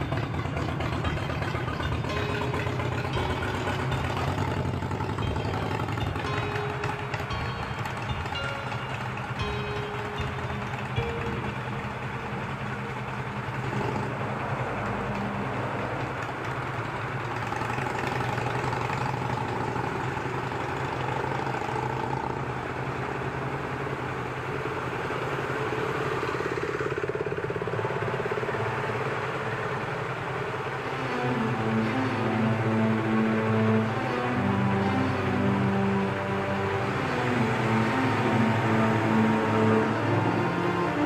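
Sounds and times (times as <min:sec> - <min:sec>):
motorcycle engine idling: 0:00.0 - 0:34.8
other motorcycles running: 0:00.0 - 0:41.0.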